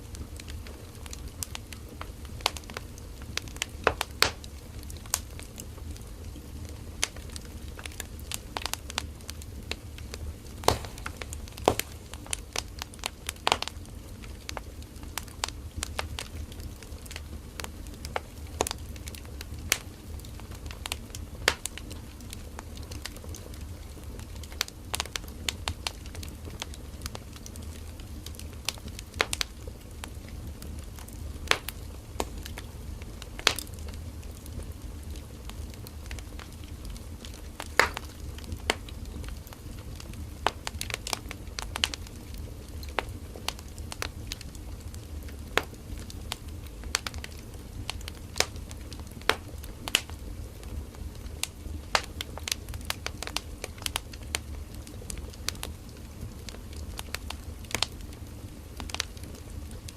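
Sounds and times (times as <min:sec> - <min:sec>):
firewood crackling: 0:00.0 - 0:59.9
low rumble of flames: 0:00.0 - 0:59.9.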